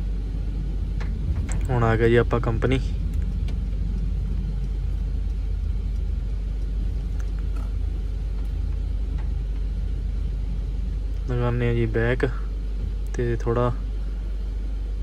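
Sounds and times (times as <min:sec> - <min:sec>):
truck diesel engine rumble: 0:00.0 - 0:15.0.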